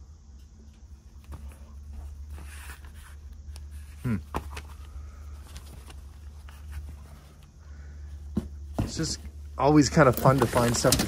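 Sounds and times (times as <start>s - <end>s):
steady low hum: 0.0s - 11.0s
newspapers rustling: 1.1s - 11.0s.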